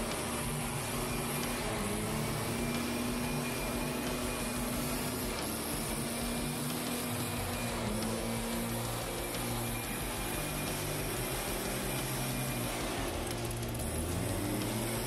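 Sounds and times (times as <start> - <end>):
leaf blower engine hum: 0.0 - 15.0.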